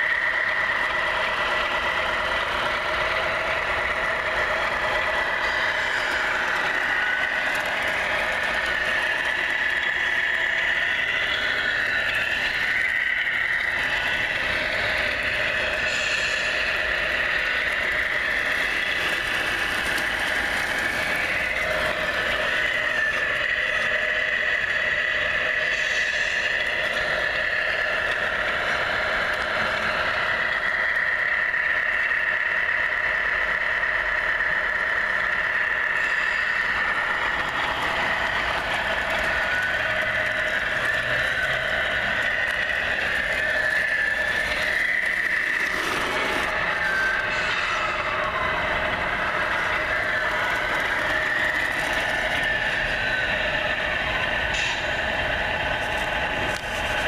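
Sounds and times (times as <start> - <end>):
high-pitched motor whine: 0.0 - 57.0.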